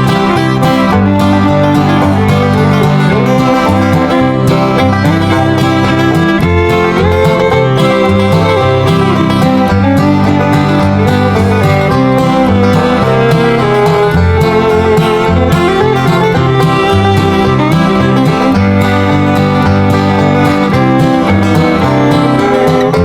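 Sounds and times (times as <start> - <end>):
banjo: 0.0 - 23.0
fiddle: 0.0 - 23.0
guitar: 0.0 - 23.0.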